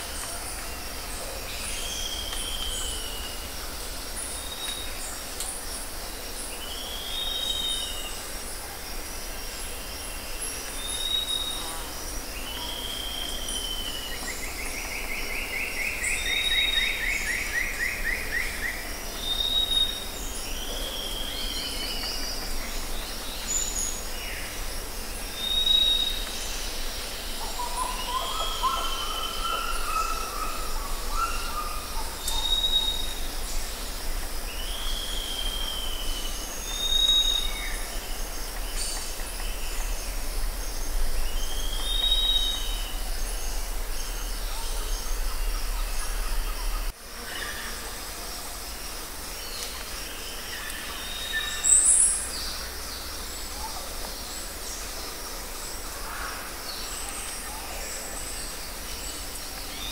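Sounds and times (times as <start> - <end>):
high drone of insects: 0.0 - 59.9.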